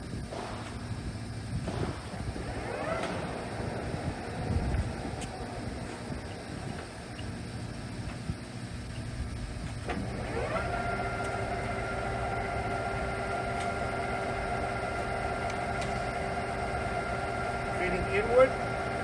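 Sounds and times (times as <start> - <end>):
low machine rumble: 0.0 - 19.0
lathe gear drive whining: 1.1 - 19.0.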